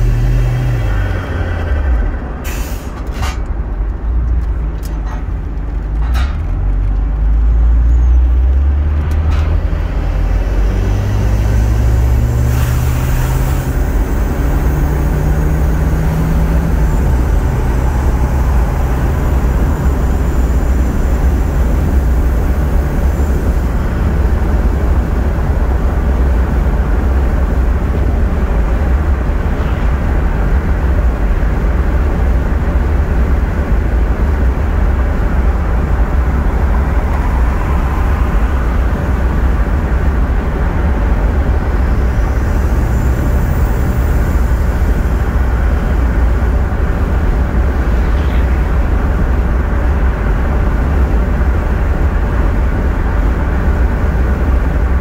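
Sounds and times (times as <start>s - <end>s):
car engine accelerating: 0.0s - 2.9s, 5.5s - 55.0s
road noise: 0.0s - 55.0s.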